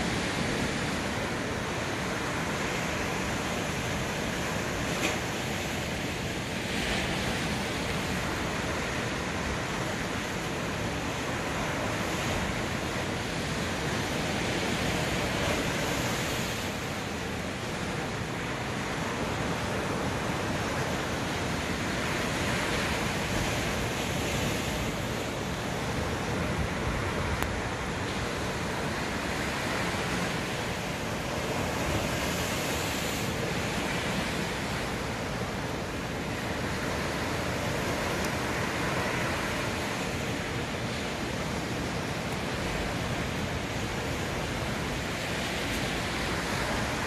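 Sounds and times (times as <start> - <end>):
sea surf washing onto shore: 0.0 - 47.0.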